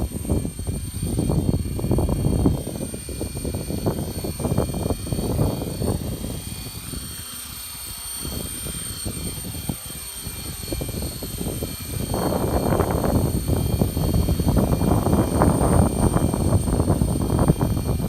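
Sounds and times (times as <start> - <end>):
radio-controlled helicopter whine: 0.0 - 18.0
wind buffeting microphone: 0.0 - 18.0.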